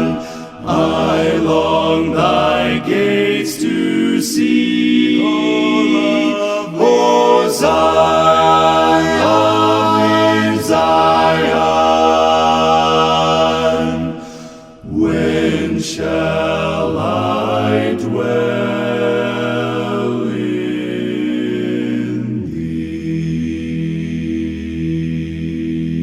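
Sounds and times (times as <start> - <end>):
choir singing a hymn a cappella: 0.0 - 26.0.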